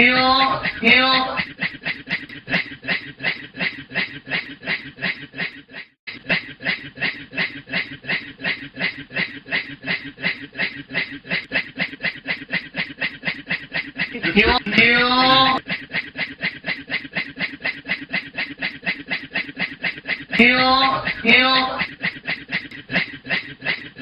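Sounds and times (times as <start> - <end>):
man imitating steam train chuffing: 0.0 - 24.0.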